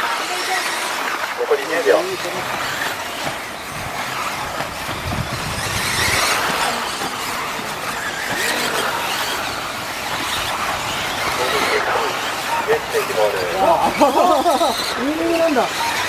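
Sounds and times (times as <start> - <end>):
rc car motor whine: 0.0 - 16.0.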